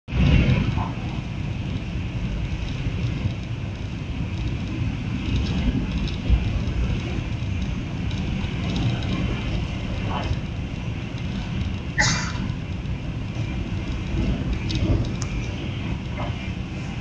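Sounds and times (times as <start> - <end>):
train rumble and hiss: 0.1 - 17.0.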